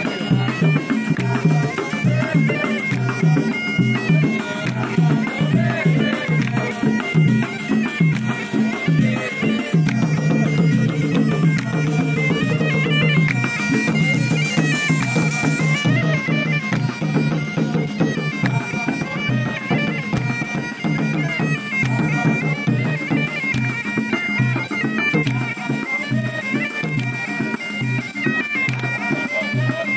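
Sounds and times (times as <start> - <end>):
bagpipe melody over drone: 0.0 - 29.9
hand drums beating: 0.0 - 29.9.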